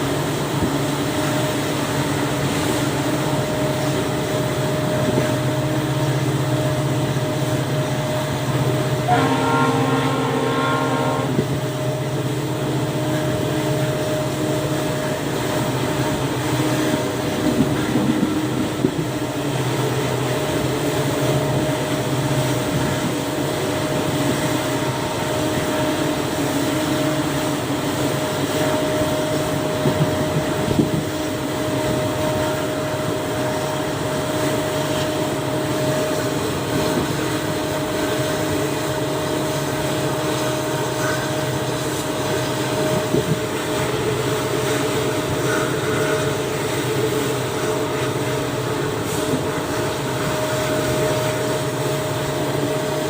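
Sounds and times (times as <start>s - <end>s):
diesel locomotive engine running: 0.0s - 53.0s.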